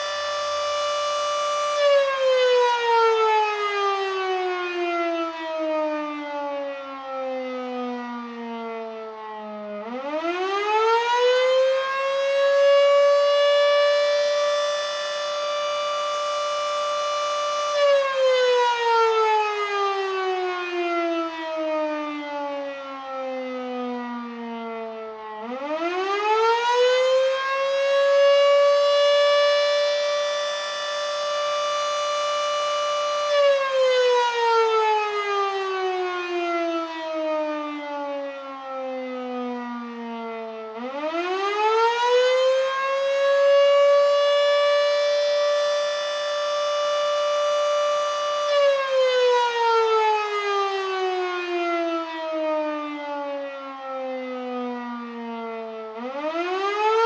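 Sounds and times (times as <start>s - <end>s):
warning siren wailing: 0.0s - 57.0s.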